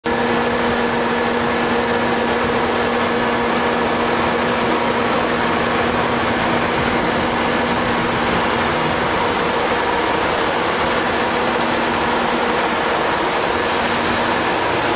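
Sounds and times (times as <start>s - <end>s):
train engine idling: 0.1s - 14.9s.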